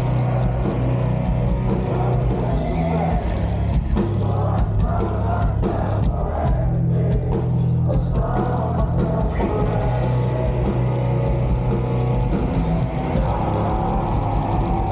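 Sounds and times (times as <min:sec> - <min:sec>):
bass: 0:00.0 - 0:14.9
distorted electric guitars: 0:00.0 - 0:14.9
drums: 0:00.0 - 0:14.9
singer's vocals: 0:00.0 - 0:14.9.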